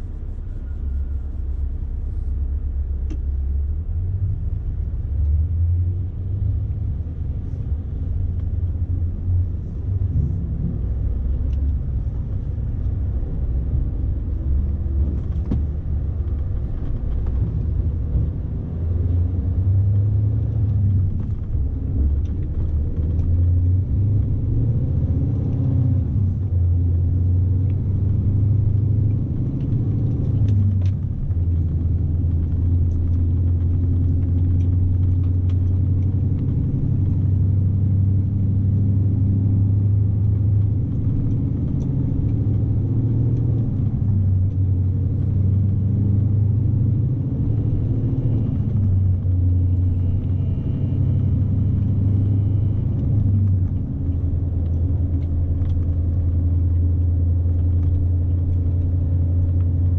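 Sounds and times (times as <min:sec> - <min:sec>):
road rumble: 0:00.0 - 0:59.9
truck diesel engine drone: 0:00.0 - 0:59.9.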